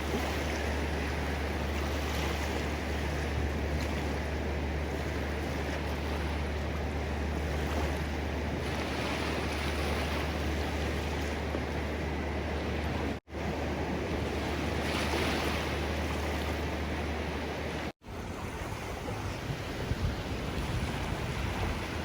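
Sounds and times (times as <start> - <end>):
ocean surf washing: 0.0 - 22.0.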